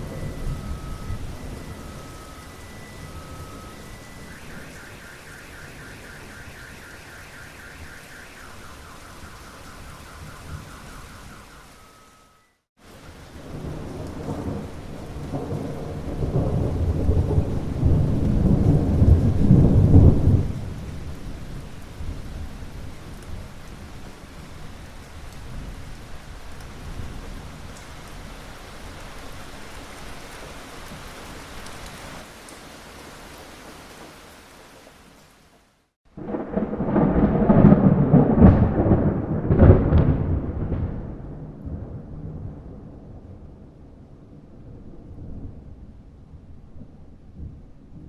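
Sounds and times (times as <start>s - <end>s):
deep rumble of thunder: 0.0s - 12.2s, 13.1s - 28.4s, 36.1s - 48.0s
steady rain: 0.0s - 48.0s.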